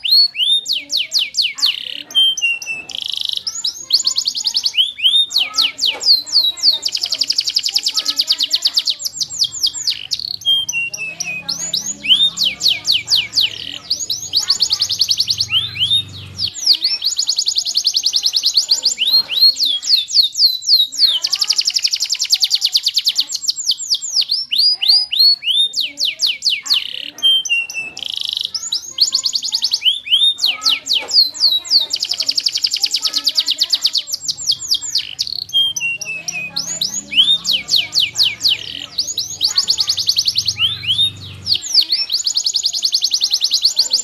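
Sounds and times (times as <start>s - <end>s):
canary singing trills: 0.0s - 44.0s.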